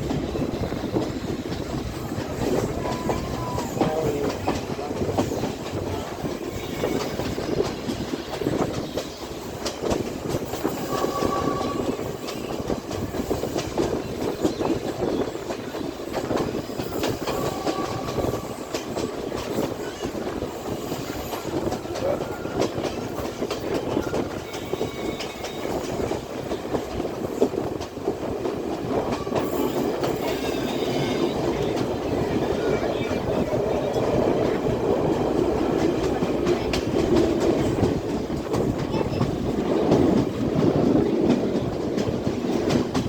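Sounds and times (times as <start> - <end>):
train rolling rumble: 0.0 - 43.0
wheels clacking over rail joints: 0.0 - 43.0.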